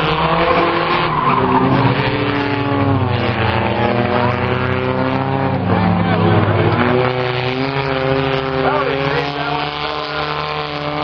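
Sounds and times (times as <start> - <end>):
race car engines revving: 0.0 - 11.0
tires skidding: 0.0 - 11.0.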